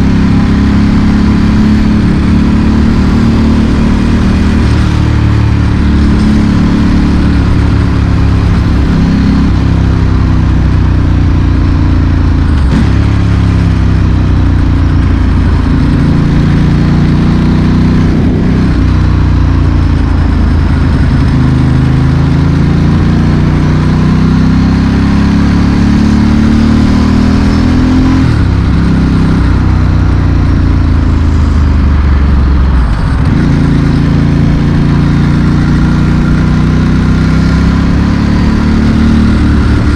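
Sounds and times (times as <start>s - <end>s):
motorcycle engine revving: 0.0s - 39.9s
traffic: 0.0s - 39.9s.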